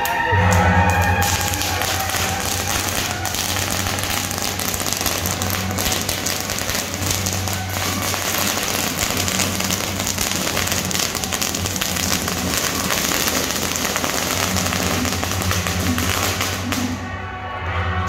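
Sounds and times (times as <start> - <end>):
firecrackers crackling: 0.0 - 17.5.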